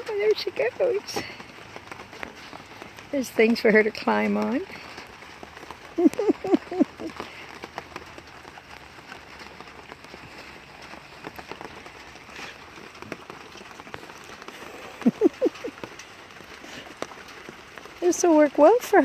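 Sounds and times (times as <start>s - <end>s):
rustling and ticking in straw: 0.0s - 19.0s.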